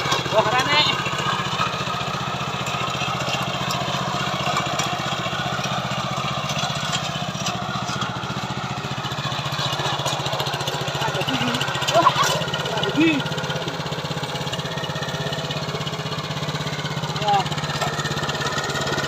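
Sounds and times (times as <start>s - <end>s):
small tiller engine running: 0.0s - 19.0s.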